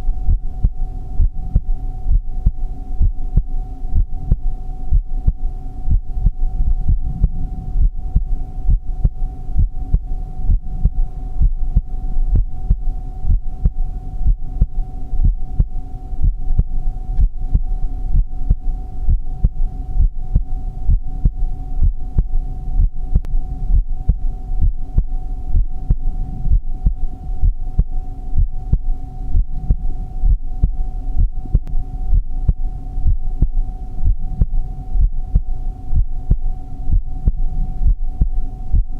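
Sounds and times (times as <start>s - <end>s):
heartbeat thumps: 0.0s - 38.9s
steady hum: 0.0s - 38.9s.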